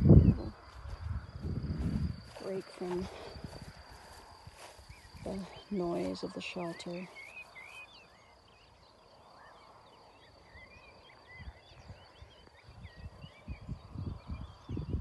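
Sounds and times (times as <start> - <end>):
high insect drone: 0.0 - 15.0
songbirds chirping: 0.0 - 15.0.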